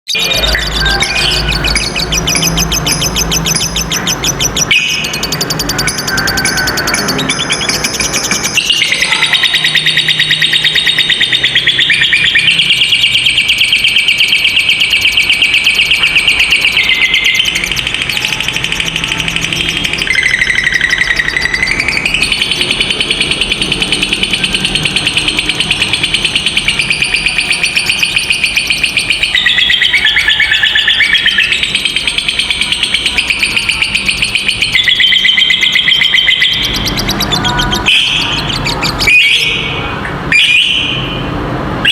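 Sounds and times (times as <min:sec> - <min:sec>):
lovebird rattling trill call: 0:00.3 - 0:39.7.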